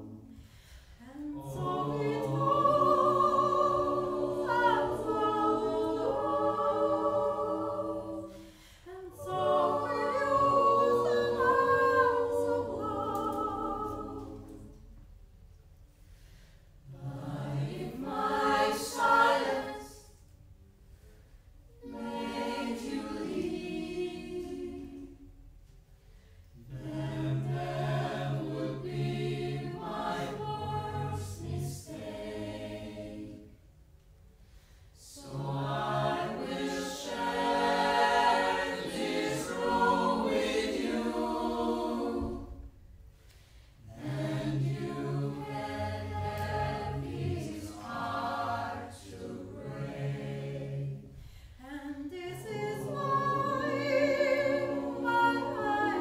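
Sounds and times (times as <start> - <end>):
vocal ensemble singing in harmony: 0.0 - 15.1, 16.0 - 33.8, 34.4 - 56.0.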